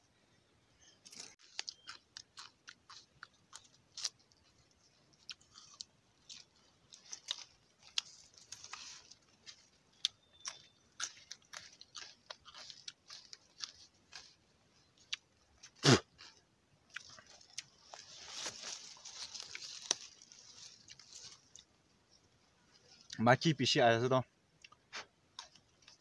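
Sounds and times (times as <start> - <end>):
person crunching raw stalk: 1.0 - 21.7, 25.4 - 26.0.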